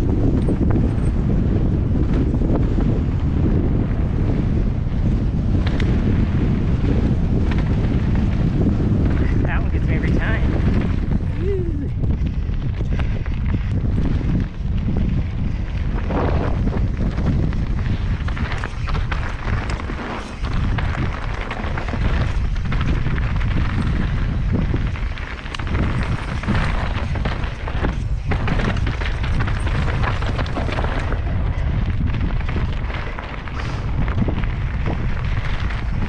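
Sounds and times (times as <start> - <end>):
bike knocks and rattles: 0.0 - 11.4, 12.1 - 36.0
wind buffeting microphone: 0.0 - 36.0
tyres on dirt: 1.1 - 36.0.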